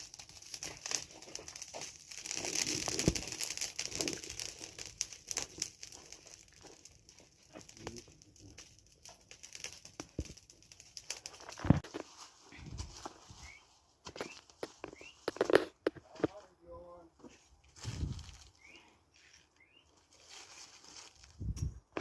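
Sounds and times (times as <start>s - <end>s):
dry rustling and crinkling: 0.0s - 22.0s.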